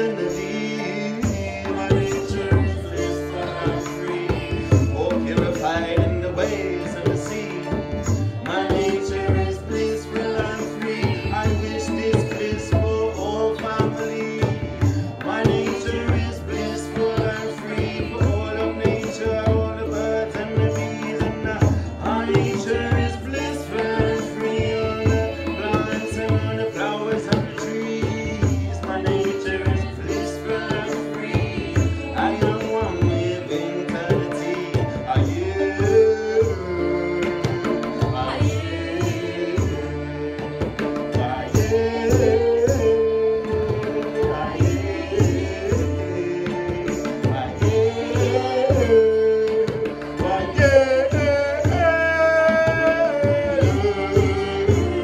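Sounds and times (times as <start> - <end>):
harmonium chords: 0.0 - 55.0
tabla drumming: 0.0 - 55.0
voices singing together: 0.0 - 55.0.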